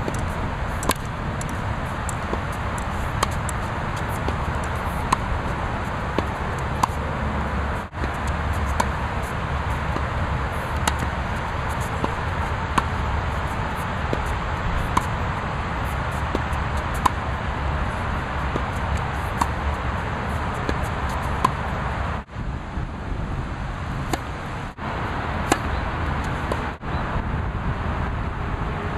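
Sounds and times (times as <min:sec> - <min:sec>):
tennis ball struck by racquet: 0:00.0 - 0:21.8, 0:24.1 - 0:24.3, 0:25.4 - 0:26.7.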